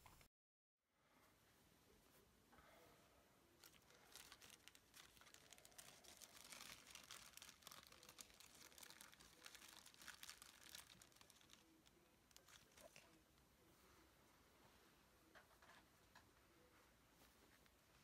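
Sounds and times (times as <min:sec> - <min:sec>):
faint crinkling and rustling: 0:03.6 - 0:18.0.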